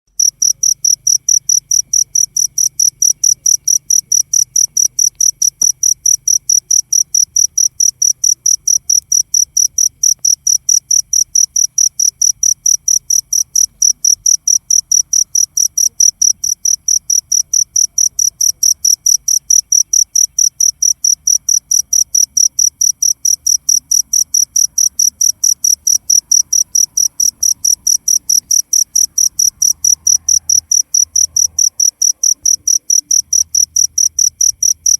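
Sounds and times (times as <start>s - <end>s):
cricket chirping: 0.2s - 34.9s.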